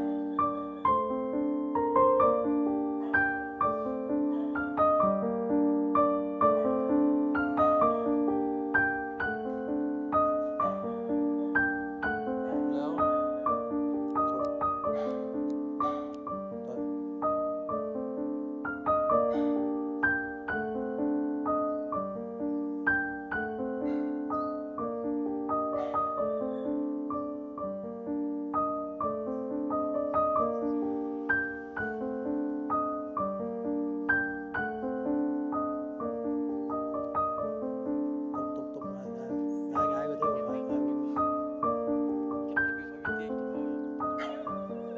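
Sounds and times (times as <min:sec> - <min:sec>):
slow solo piano: 0:00.0 - 0:44.9.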